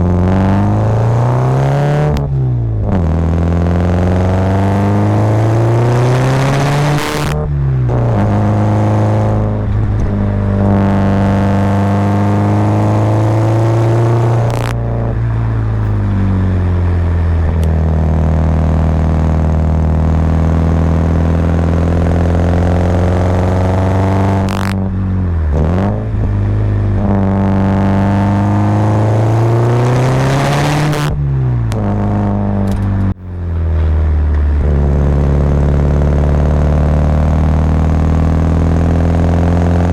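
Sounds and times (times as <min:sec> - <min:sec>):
car engine revving under load: 0:00.0 - 0:39.9.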